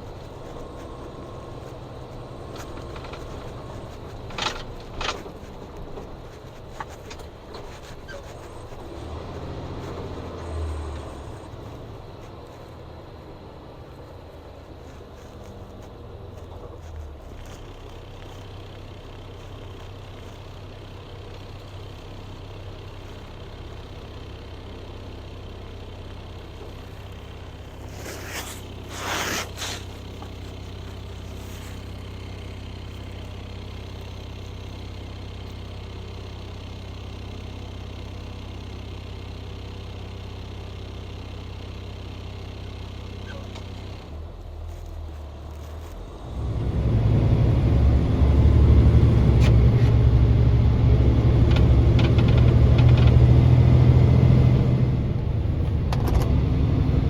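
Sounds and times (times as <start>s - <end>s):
vehicle engine humming: 0.0s - 57.0s.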